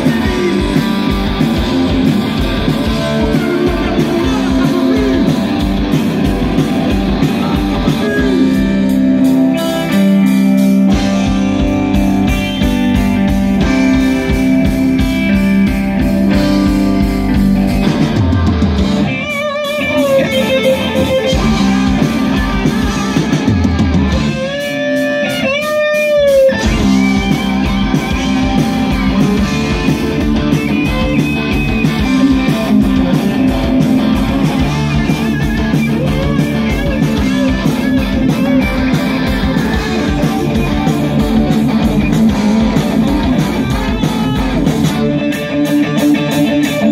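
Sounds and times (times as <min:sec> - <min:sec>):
bass guitar: 0:00.0 - 0:46.9
drum kit: 0:00.0 - 0:46.9
electric guitar: 0:00.0 - 0:46.9.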